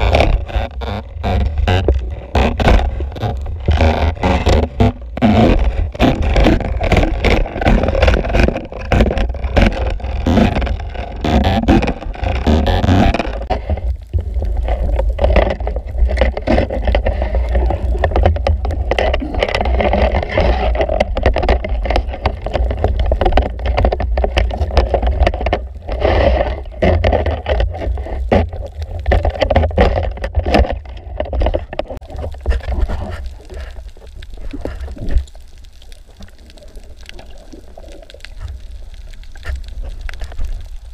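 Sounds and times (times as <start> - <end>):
crackle of sharp clicks: 0.0 - 40.9
low rumble of moving water: 0.0 - 40.9.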